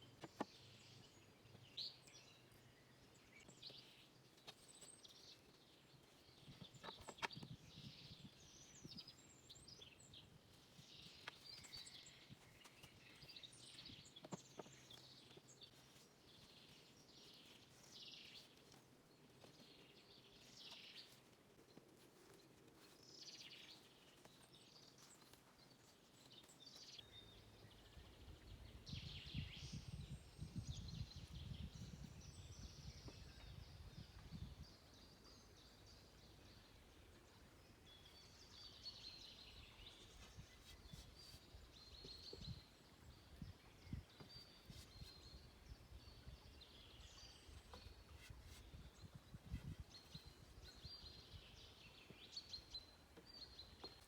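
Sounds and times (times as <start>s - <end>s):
faint birdsong chirps: 0.0s - 54.0s.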